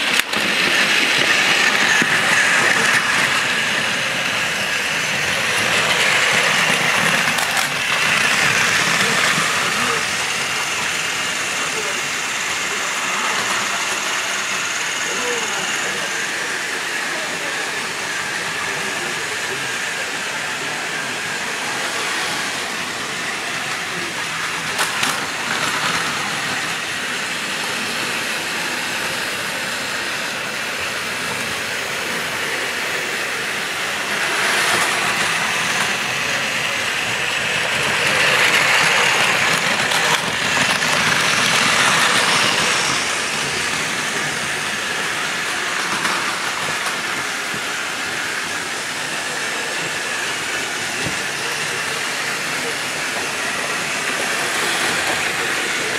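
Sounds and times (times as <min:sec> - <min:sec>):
toy trains running on plastic track: 0:00.0 - 0:55.9.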